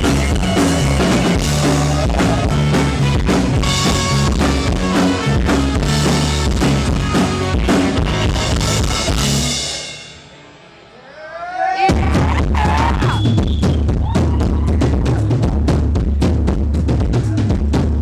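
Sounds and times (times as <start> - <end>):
rock band playing live: 0.0 - 11.0, 11.9 - 18.0.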